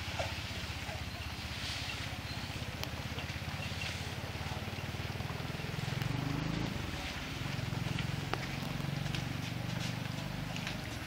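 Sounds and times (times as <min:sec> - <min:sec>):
motor engine running: 0:00.4 - 0:11.0.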